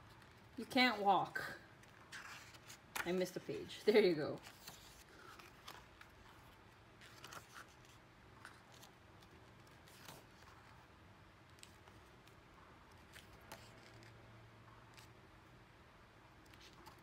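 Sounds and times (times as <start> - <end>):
pages turning: 1.7 - 15.2, 16.4 - 17.0.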